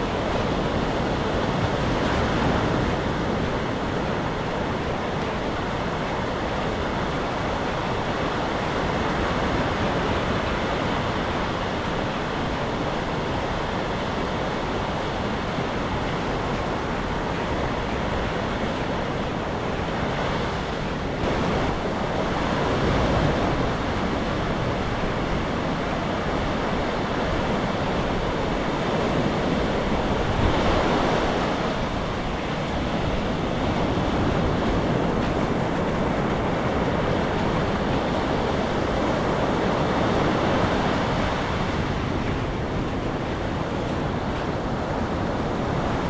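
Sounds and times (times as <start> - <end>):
waves washing onto beach: 0.0 - 46.0
wind buffeting microphone: 0.0 - 46.0.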